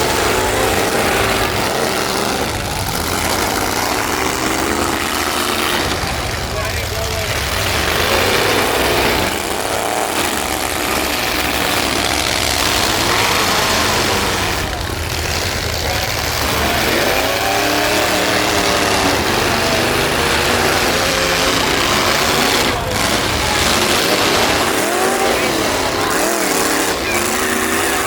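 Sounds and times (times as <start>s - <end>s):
truck engines revving: 0.0s - 28.0s.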